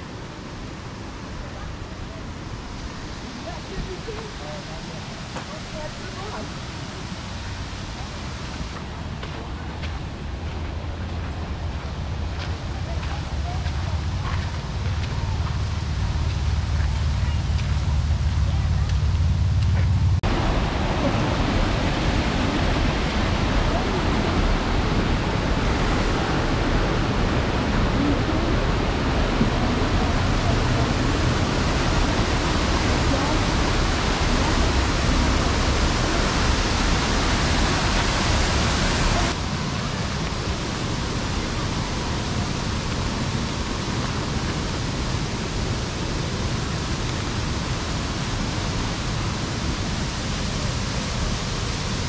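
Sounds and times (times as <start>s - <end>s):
waterfall rushing over rocks: 0.0s - 10.3s, 20.2s - 52.0s.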